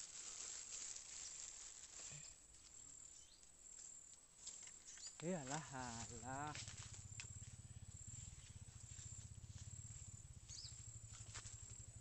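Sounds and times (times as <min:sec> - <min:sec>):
insects chirring: 0:00.0 - 0:12.0
short insect chirp: 0:02.2 - 0:12.0.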